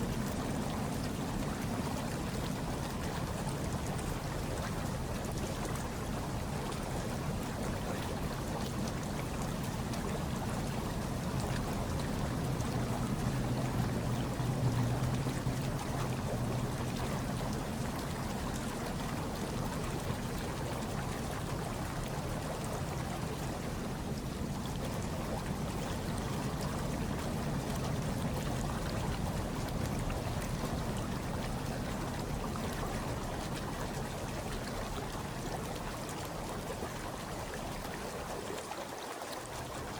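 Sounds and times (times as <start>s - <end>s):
hot tub water bubbling: 0.0s - 39.9s.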